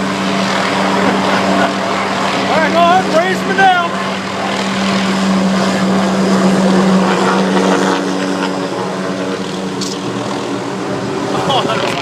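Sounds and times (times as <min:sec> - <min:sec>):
helicopter rotor and turbine drone: 0:00.0 - 0:12.0
higher helicopter tone: 0:00.0 - 0:12.0.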